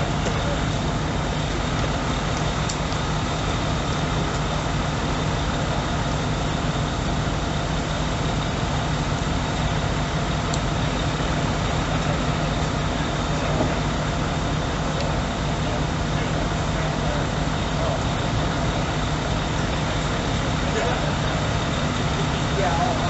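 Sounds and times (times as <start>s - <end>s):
large vehicle engine idling: 0.0s - 23.0s.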